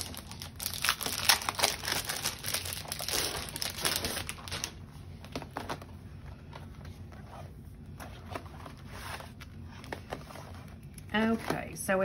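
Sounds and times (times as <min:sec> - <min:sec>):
packaging crinkling and rustling: 0:00.0 - 0:11.8.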